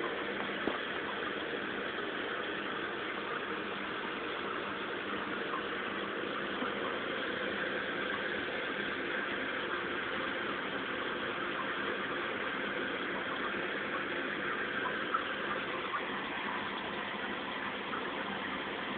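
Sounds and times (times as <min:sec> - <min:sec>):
aquarium pump humming: 0:00.0 - 0:18.9.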